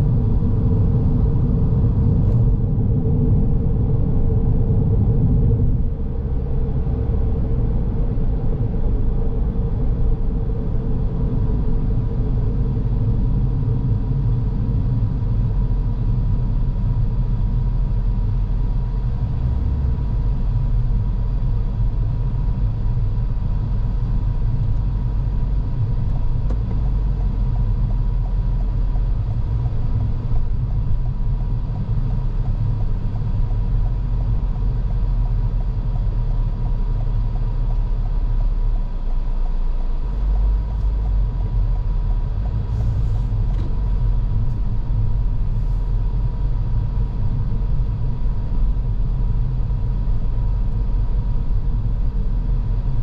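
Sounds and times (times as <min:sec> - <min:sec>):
engine and road noise rumble: 0:00.0 - 0:53.0.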